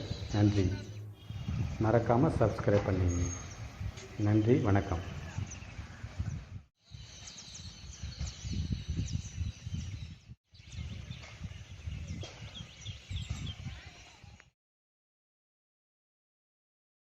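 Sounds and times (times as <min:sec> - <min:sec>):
gusty wind on microphone: 0:00.0 - 0:14.4
birds chirping: 0:00.0 - 0:14.5.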